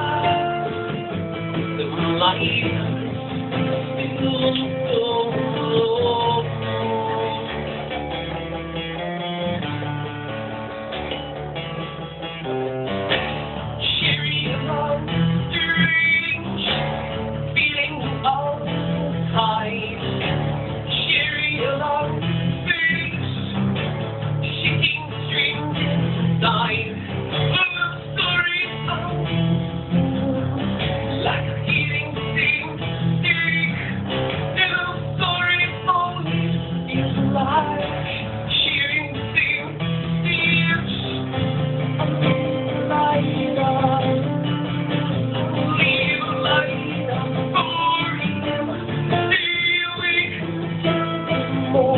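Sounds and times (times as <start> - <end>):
guitar playing: 0.0 - 51.9
live band music: 0.0 - 51.9.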